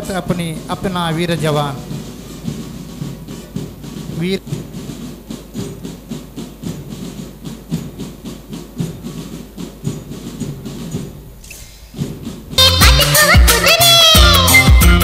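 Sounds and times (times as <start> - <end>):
rhythmic beat of strikes: 0.0 - 15.0.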